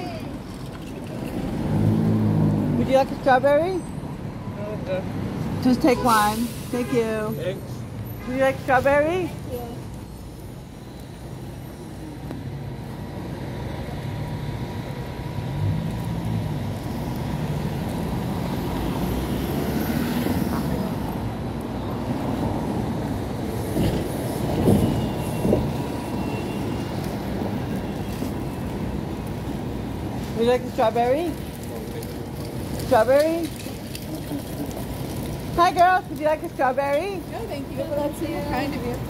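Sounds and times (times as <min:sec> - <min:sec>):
cars and bus passing: 0:00.0 - 0:39.0.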